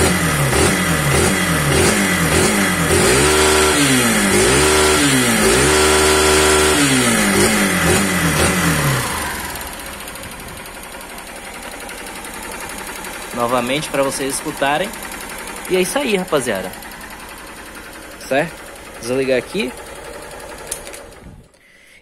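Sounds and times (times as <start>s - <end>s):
motorcycle engine idling: 0.0s - 21.6s
motorcycle engine revving: 0.0s - 21.6s.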